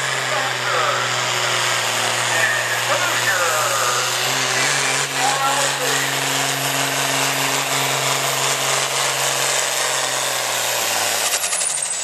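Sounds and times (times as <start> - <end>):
tractor diesel engine at full throttle: 0.0 - 12.0.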